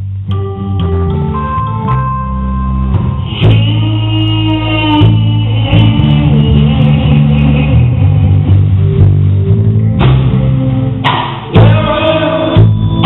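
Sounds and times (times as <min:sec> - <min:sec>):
live gospel band: 0:00.0 - 0:13.0.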